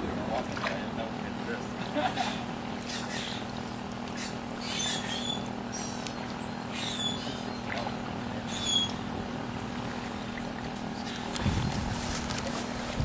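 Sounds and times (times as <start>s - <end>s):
steady low hum: 0.0s - 13.0s
water sloshing around wading legs: 0.0s - 13.0s.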